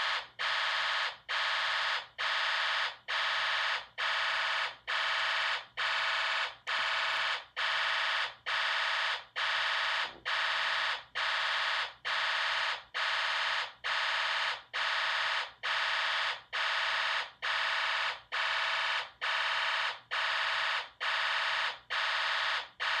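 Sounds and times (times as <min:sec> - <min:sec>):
fire alarm buzzing: 0:00.0 - 0:23.0.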